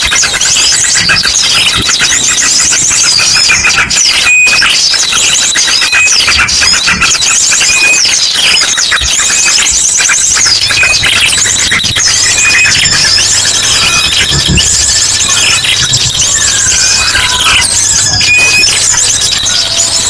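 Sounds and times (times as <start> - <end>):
bird trilled calls and whistles: 0.0 - 20.0
many small birds chirping: 0.0 - 20.0.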